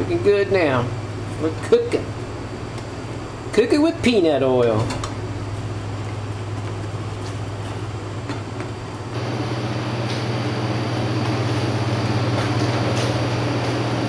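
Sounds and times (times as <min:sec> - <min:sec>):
exhaust hood fan humming: 0:00.0 - 0:14.0.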